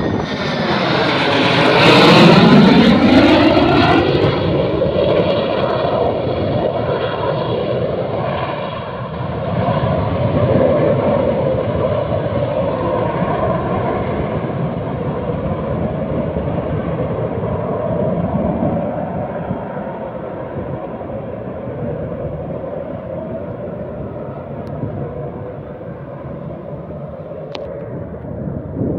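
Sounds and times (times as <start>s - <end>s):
distant jet engine rumble: 0.0s - 28.9s.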